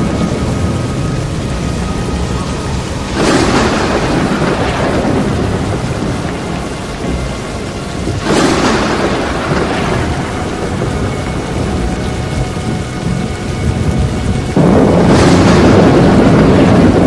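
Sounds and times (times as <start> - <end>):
heavy rain: 0.0 - 17.0
wind: 0.0 - 17.0.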